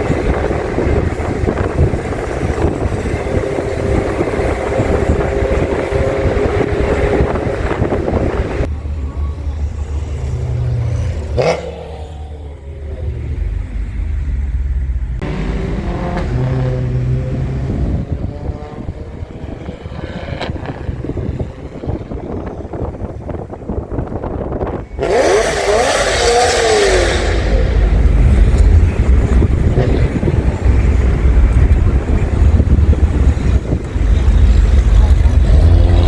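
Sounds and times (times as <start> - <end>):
sports car engines revving: 0.0 - 8.7, 10.2 - 13.8, 15.0 - 36.0.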